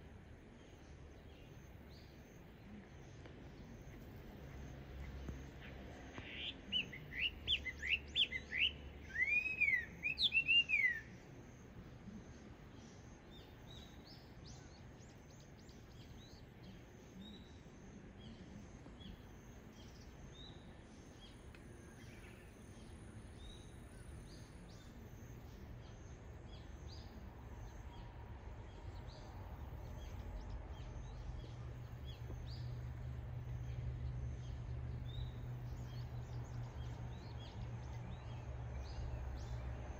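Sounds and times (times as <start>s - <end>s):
faint bird chirps: 0.6s - 39.7s.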